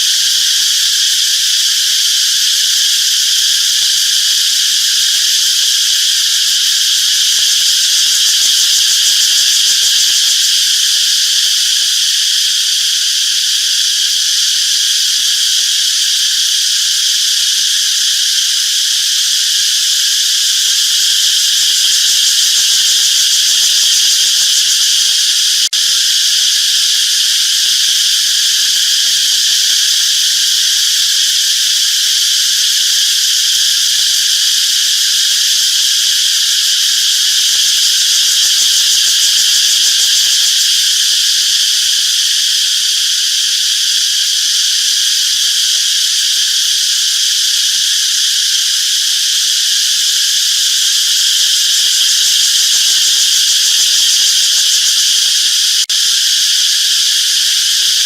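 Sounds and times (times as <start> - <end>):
cicadas singing: 0.0 - 58.0.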